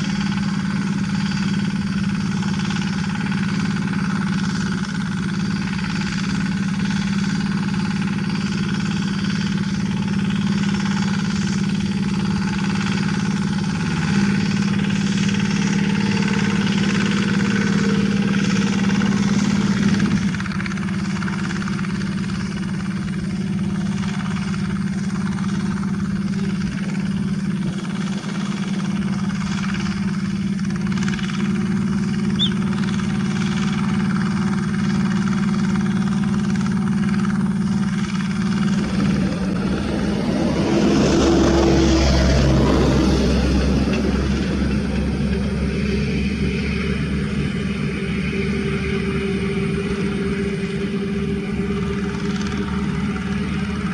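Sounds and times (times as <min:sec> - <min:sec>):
hand tractor diesel engine running: 0:00.0 - 0:53.9.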